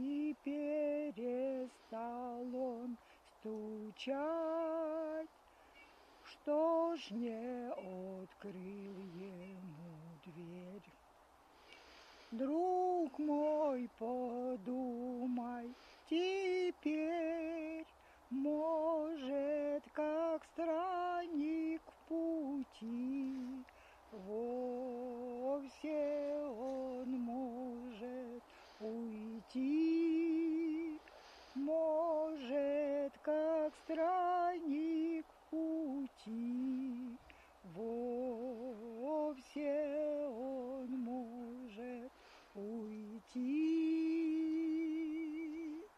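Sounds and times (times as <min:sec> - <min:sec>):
woman singing slow melody: 0:00.0 - 0:45.9.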